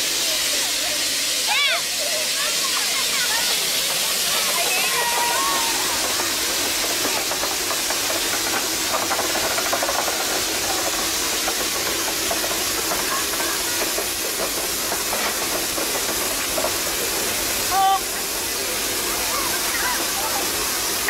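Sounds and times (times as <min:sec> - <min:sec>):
steam hissing from locomotive: 0:00.0 - 0:21.0.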